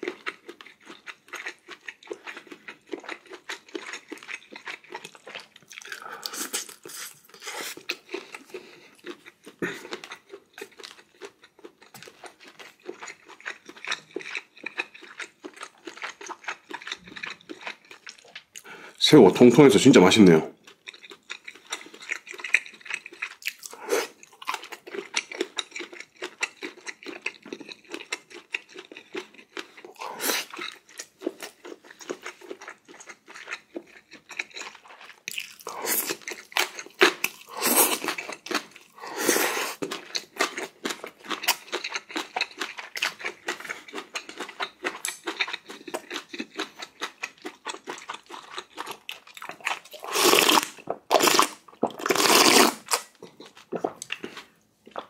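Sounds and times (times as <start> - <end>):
wet chewing and crunching: 0.0 - 19.0, 20.2 - 55.0.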